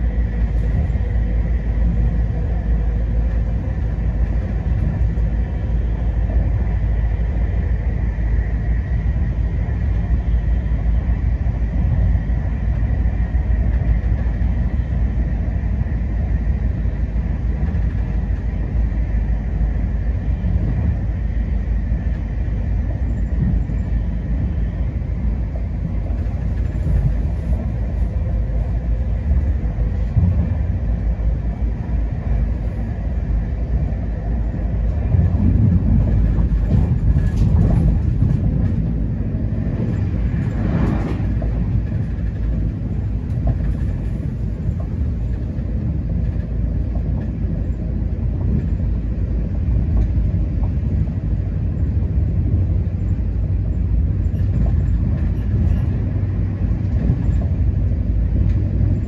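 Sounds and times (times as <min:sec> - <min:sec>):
moving train rumble inside carriage: 0:00.0 - 0:59.0.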